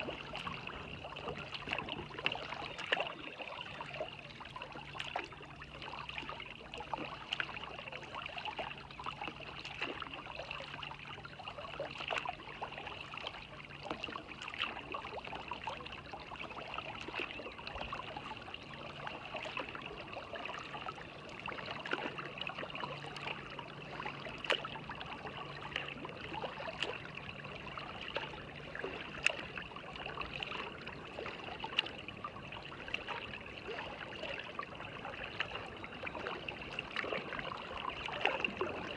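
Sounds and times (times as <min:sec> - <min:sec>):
floodwater running and trickling: 0:00.0 - 0:38.9
water drips and splashes: 0:00.0 - 0:38.9.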